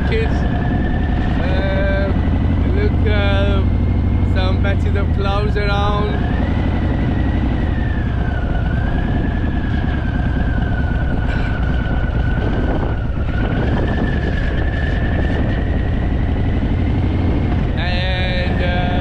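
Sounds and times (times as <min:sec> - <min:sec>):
motorcycle engine rumble: 0:00.0 - 0:19.0.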